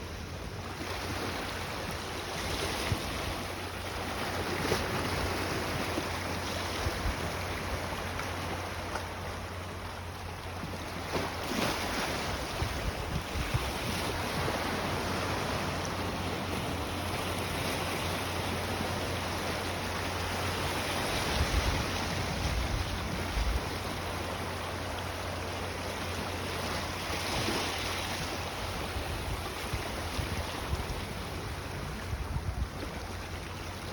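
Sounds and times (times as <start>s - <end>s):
wind on microphone: 0.0s - 8.0s, 11.4s - 24.5s, 26.7s - 33.9s
sea waves washing: 0.0s - 33.9s.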